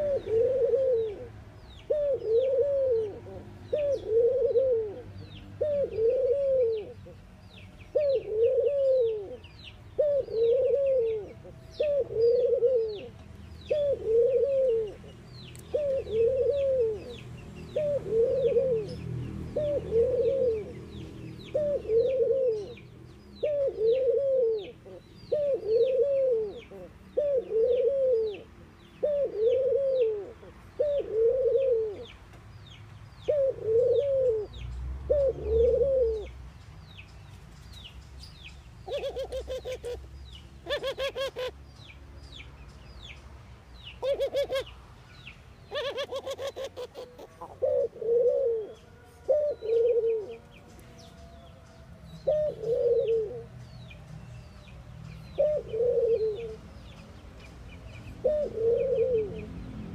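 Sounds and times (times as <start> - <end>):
dove cooing: 0.0 - 7.2, 7.9 - 32.1, 33.2 - 36.4, 38.8 - 40.0, 40.6 - 41.6, 44.0 - 44.7, 45.7 - 53.6, 55.3 - 56.8, 58.2 - 59.9.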